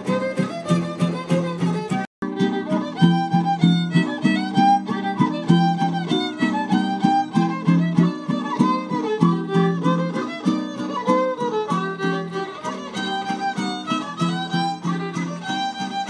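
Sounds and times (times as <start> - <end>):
rhythmic guitar strumming: 0.0 - 16.0
violin playing lively melody: 0.0 - 16.0.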